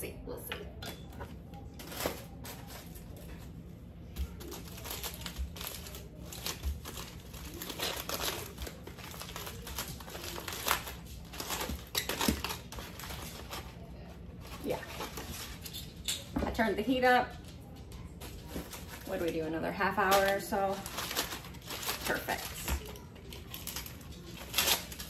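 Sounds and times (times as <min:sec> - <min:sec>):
aluminium foil crinkling: 0:00.8 - 0:25.0.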